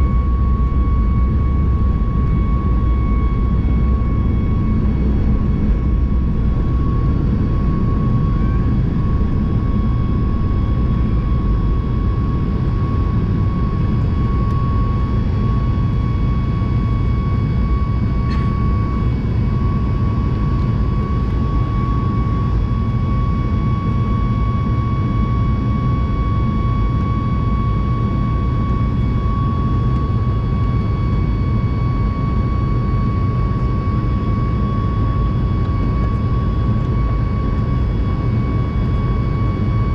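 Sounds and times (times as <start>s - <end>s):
jet engine cabin rumble: 0.0s - 39.9s
jet engine high whine: 0.0s - 39.9s.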